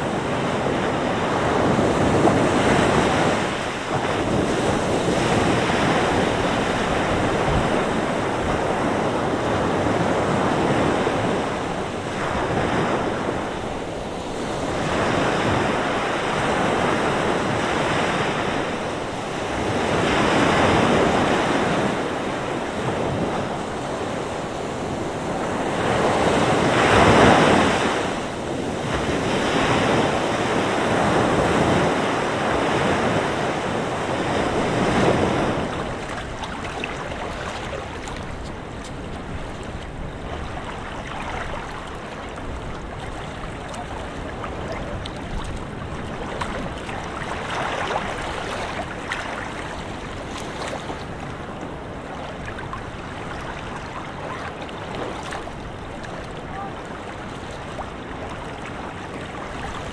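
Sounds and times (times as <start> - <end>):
surf breaking on beach: 0.0 - 59.9
wind on microphone: 0.0 - 59.9.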